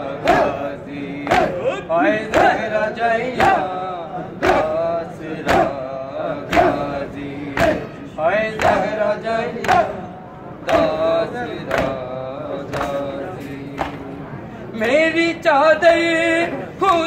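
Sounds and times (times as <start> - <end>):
rhythmic chest-beating slaps: 0.0 - 14.2, 14.8 - 15.2
men chanting in unison: 0.0 - 17.0.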